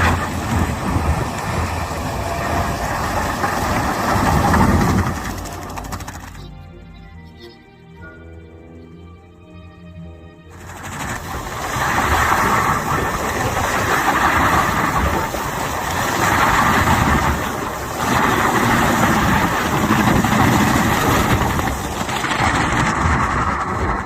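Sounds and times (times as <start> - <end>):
heavy machine engine running: 0.0 - 9.1, 10.5 - 24.0.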